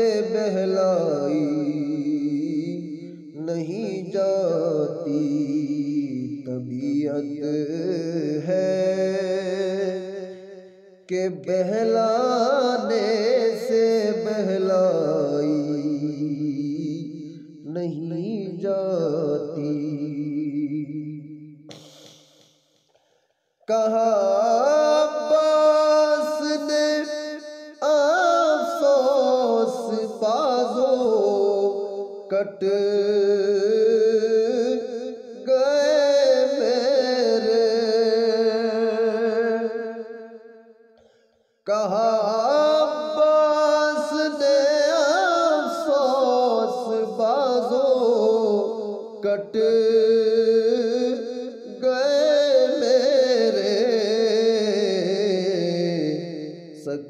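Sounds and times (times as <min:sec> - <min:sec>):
man singing devotional song: 0:00.0 - 0:22.4, 0:23.6 - 0:40.9, 0:41.6 - 0:57.0.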